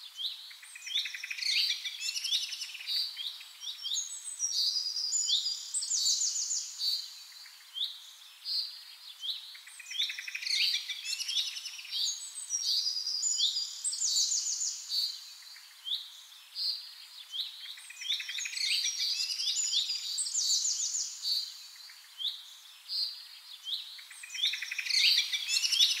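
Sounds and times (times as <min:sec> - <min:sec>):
birds chirping and trilling: 0:00.1 - 0:26.0.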